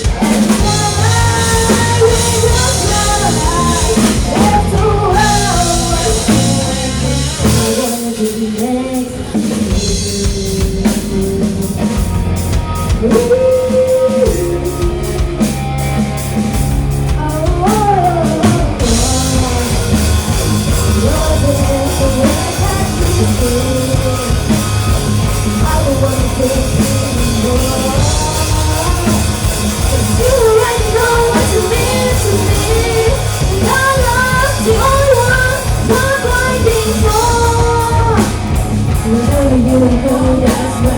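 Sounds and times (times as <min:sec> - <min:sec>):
drum beat: 0:00.0 - 0:08.4, 0:16.5 - 0:40.9
person singing: 0:00.0 - 0:15.9, 0:17.1 - 0:40.9
rock band playing live: 0:00.0 - 0:40.9.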